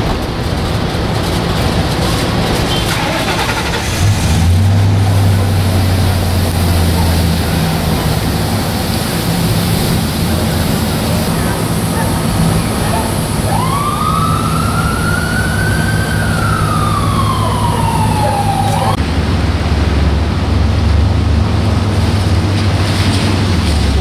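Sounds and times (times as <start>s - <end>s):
vehicle engine idling: 0.0s - 22.7s
deep loud drone: 3.4s - 22.8s.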